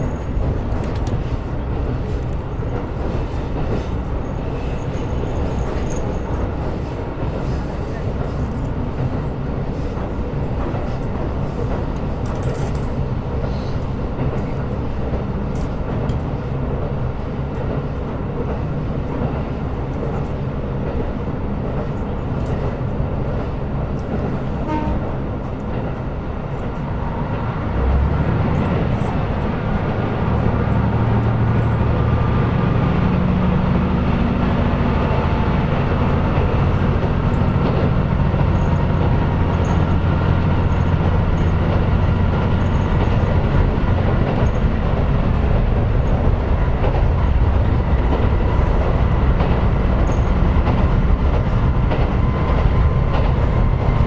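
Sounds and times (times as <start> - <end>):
wheels on rail: 0.0 - 54.0.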